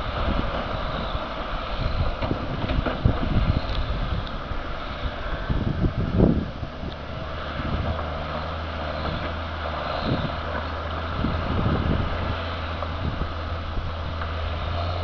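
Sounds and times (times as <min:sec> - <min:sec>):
heavy diesel engines droning: 0:00.0 - 0:15.0
wind buffeting microphone: 0:00.0 - 0:15.0.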